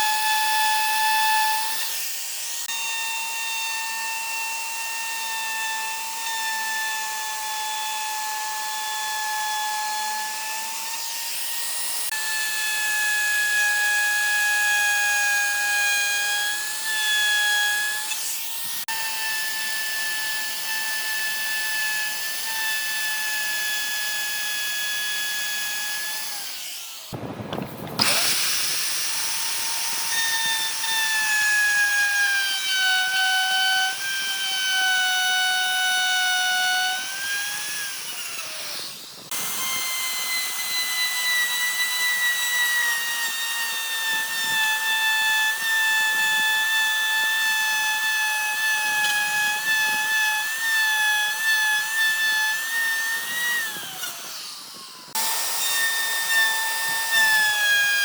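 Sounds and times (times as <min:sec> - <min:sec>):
power tool motor whining: 0:00.0 - 0:58.0.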